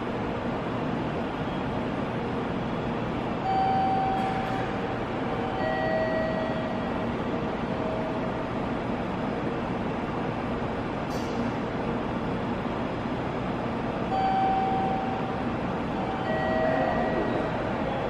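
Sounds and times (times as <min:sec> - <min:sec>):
station concourse background noise: 0:00.0 - 0:18.0.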